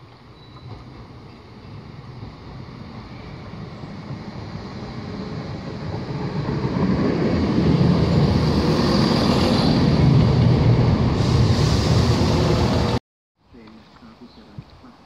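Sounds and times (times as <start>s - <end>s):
diesel train engine: 0.0s - 13.0s.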